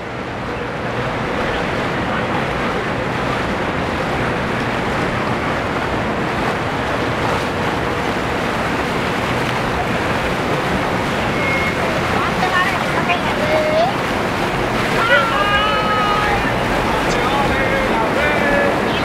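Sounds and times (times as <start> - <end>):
boat wake rushing on water: 0.0 - 19.0
outboard motors running: 0.0 - 19.0.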